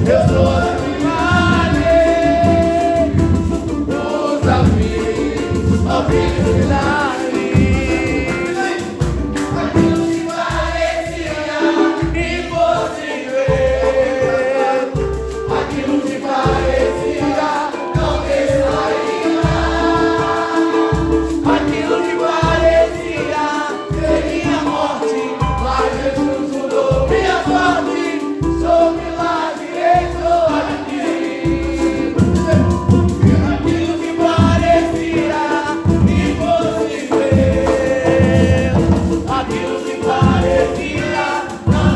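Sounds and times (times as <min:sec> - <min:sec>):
voices singing together: 0:00.0 - 0:41.9.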